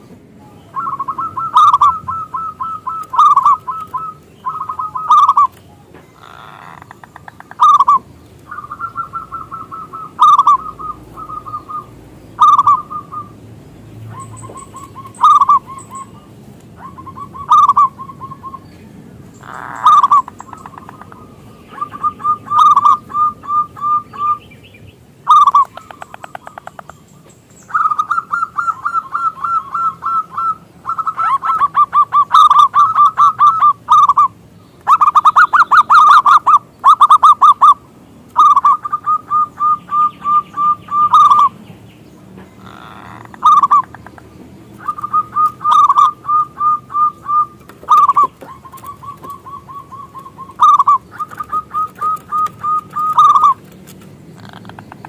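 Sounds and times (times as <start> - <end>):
dove cooing: 0.7 - 13.4, 14.1 - 18.6, 19.4 - 24.5, 25.2 - 27.0, 27.7 - 37.8, 38.4 - 41.6, 42.5 - 55.0.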